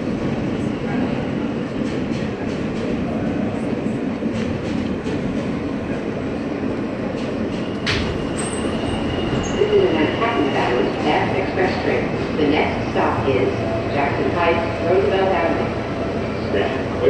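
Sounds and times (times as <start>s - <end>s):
rumble of wheels on track: 0.0s - 17.0s
rail joint clicks: 1.7s - 6.1s, 6.9s - 16.8s.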